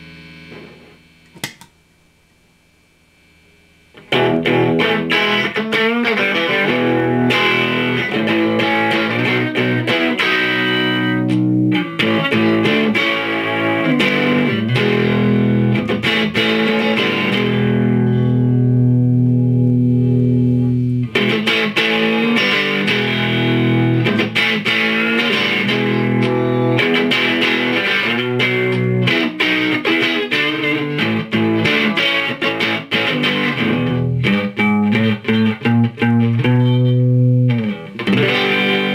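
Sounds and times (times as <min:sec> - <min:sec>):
distorted electric guitar: 0:00.0 - 0:01.7, 0:03.1 - 0:38.9.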